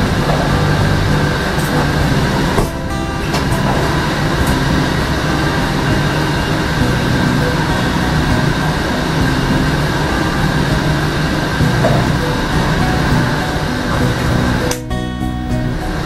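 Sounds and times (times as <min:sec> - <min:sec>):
train rumbling: 0:00.0 - 0:14.8
low hum: 0:00.0 - 0:16.0.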